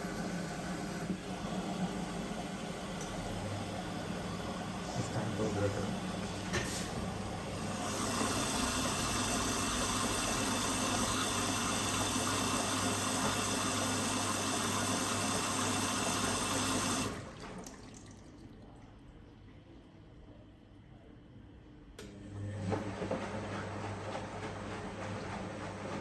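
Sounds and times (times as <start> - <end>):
water rushing in washing machine: 0.0 - 19.5, 22.1 - 26.0.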